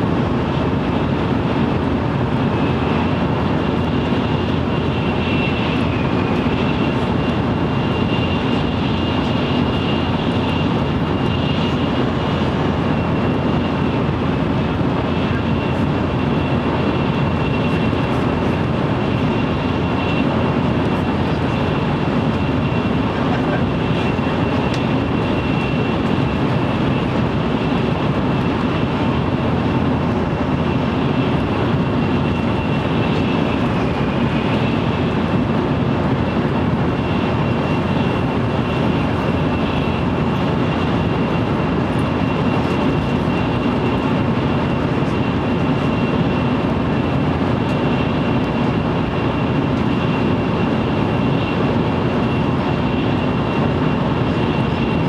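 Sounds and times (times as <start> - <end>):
train interior rumble and rush: 0.0 - 55.0.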